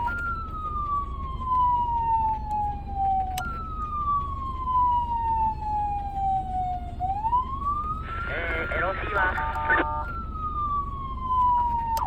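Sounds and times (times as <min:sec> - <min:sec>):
ambulance siren falling tone: 0:00.0 - 0:12.0.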